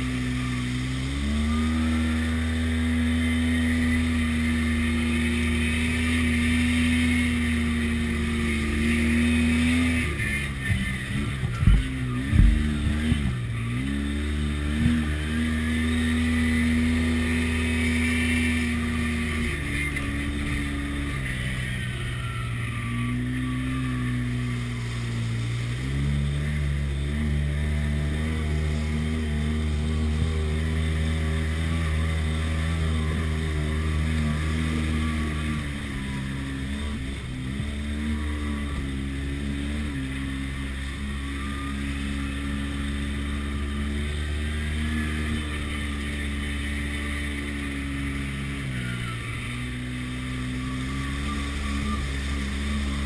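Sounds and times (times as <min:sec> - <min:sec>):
utility vehicle engine running: 0:00.0 - 0:53.0.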